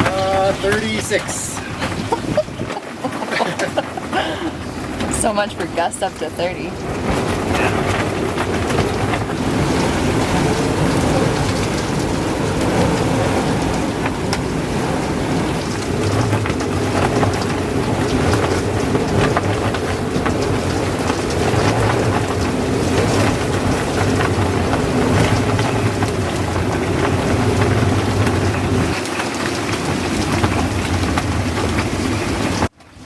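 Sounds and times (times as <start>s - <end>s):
gale-force wind: 0.0s - 32.7s.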